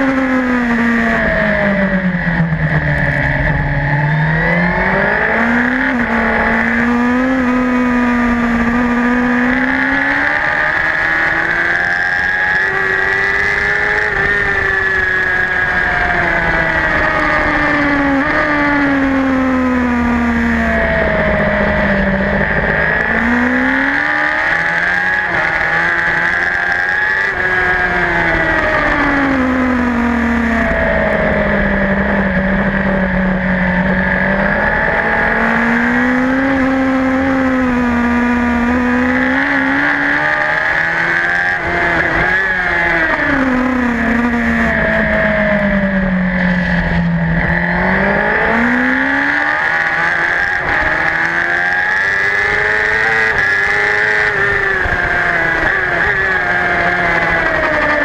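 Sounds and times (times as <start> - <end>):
racing motorcycle engine: 0.0 - 58.0.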